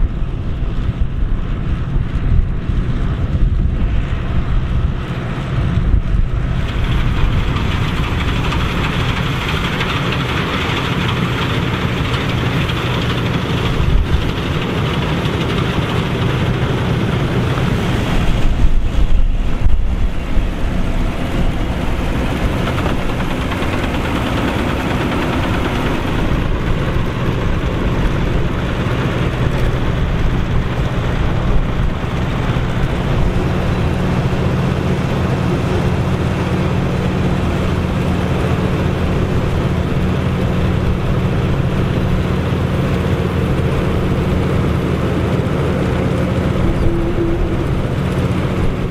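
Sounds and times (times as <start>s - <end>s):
tractor engine drone: 0.0s - 48.9s
combine harvester threshing: 0.6s - 48.9s.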